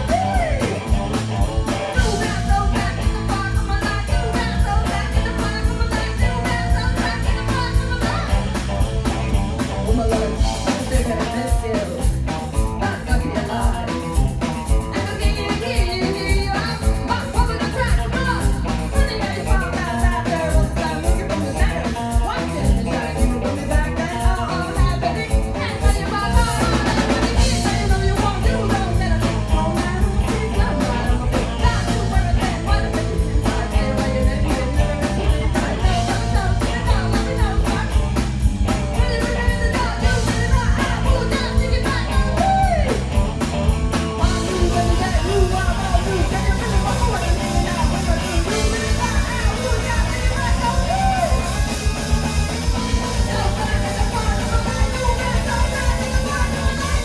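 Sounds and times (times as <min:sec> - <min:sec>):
drum kit beat: 0:00.0 - 0:57.0
live rock band playing: 0:00.0 - 0:57.0
person singing: 0:00.0 - 0:57.0.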